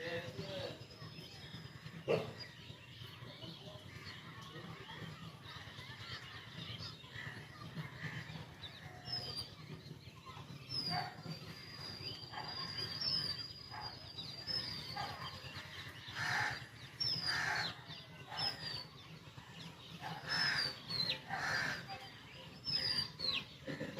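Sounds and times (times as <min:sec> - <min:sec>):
birds chirping: 0:00.0 - 0:23.9
harsh bird calls: 0:00.0 - 0:23.9.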